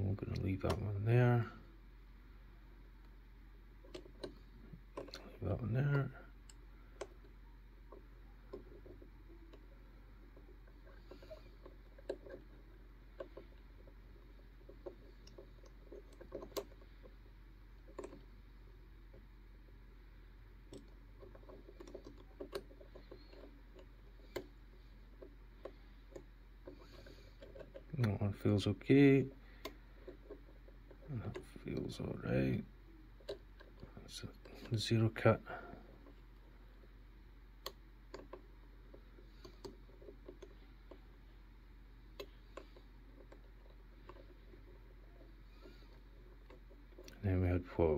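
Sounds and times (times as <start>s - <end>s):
small metal clicks and scrapes: 3.8s - 19.6s, 20.6s - 36.9s, 37.6s - 41.1s, 42.1s - 47.2s.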